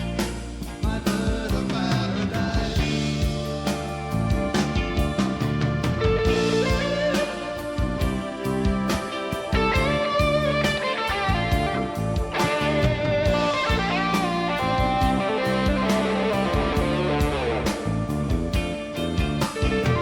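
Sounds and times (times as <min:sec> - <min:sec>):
drum kit beat: 0:00.0 - 0:20.0
electric guitar lead: 0:02.8 - 0:20.0.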